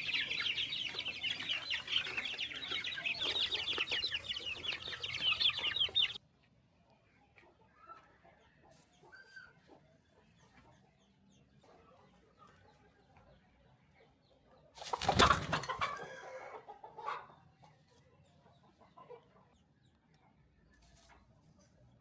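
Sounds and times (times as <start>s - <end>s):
chickens clucking: 0.0s - 6.2s, 7.0s - 21.9s.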